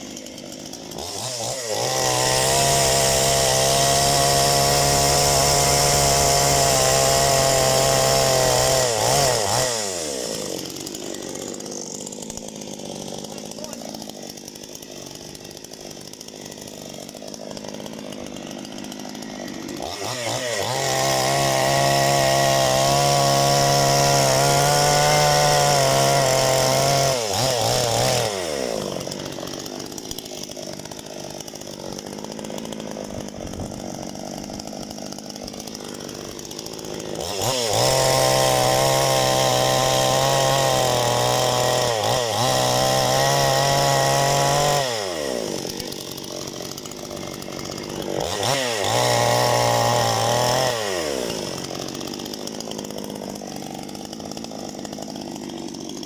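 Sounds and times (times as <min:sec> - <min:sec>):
chainsaw cutting firewood: 0:00.0 - 0:56.0.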